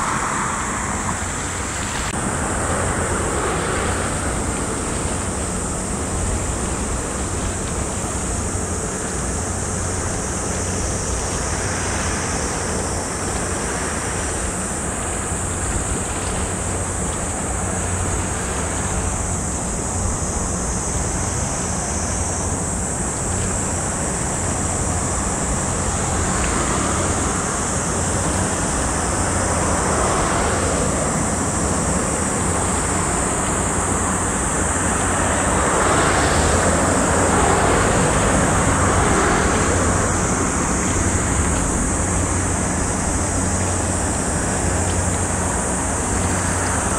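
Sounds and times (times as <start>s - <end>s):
water rushing: 0.0s - 46.9s
wind: 0.0s - 46.9s.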